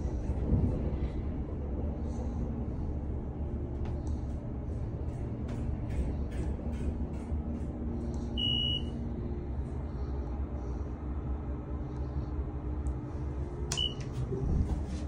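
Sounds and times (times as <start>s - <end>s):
elevator humming in motion: 0.0s - 15.0s.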